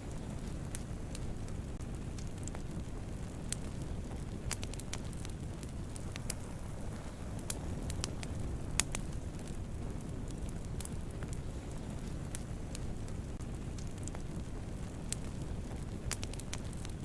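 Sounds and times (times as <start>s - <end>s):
campfire burning and crackling: 0.0s - 17.0s.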